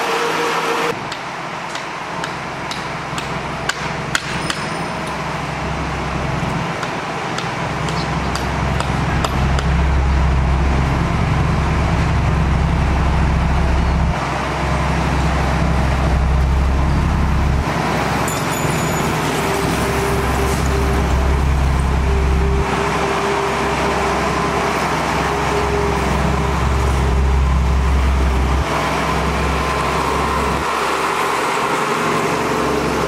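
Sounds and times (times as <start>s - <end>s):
diesel engine droning: 0.0s - 33.0s.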